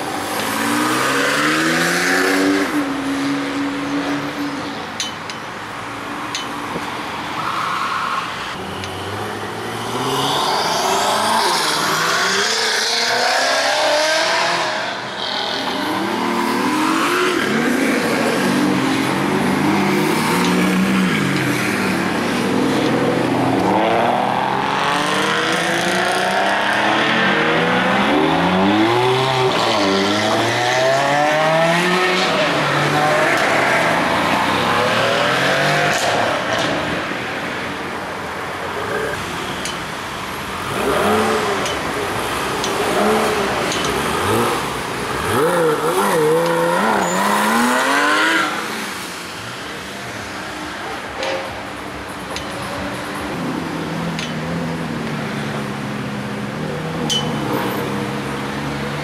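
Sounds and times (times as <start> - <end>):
sports car engines revving: 0.0 - 7.2, 8.3 - 59.0.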